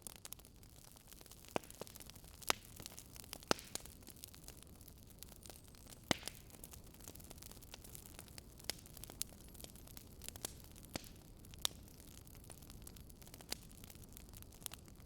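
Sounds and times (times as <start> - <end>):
wood fire popping and snapping: 0.0 - 15.0.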